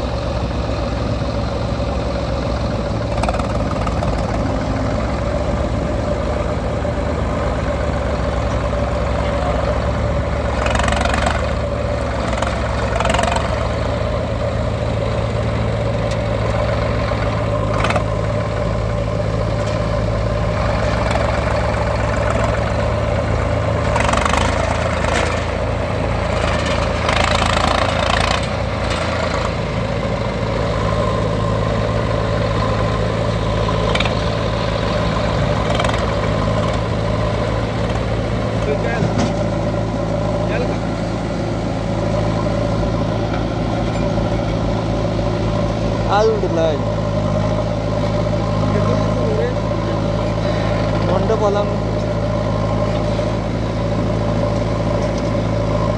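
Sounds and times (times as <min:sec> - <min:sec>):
diesel engines idling: 0:00.0 - 0:55.9.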